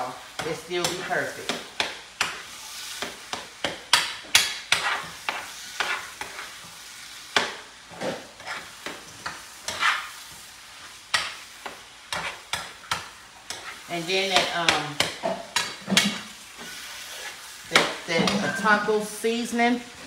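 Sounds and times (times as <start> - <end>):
meat sizzling in a skillet: 0.0 - 20.0
utensil scraping a pan: 0.4 - 6.8, 7.4 - 19.0.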